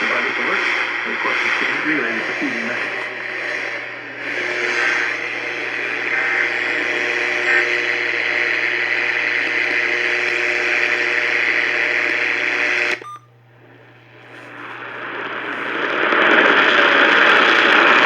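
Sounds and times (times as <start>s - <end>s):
radio receiver hiss and static: 0.0s - 18.0s.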